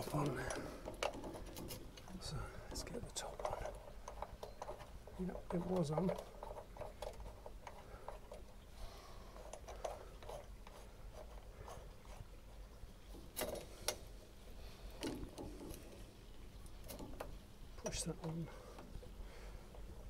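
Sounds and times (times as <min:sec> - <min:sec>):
hands working metal pipe fittings: 0:00.0 - 0:20.0.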